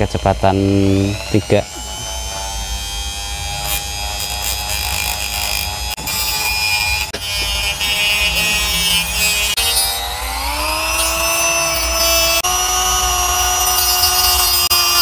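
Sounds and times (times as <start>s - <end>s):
die grinder motor whine: 0.0s - 15.0s.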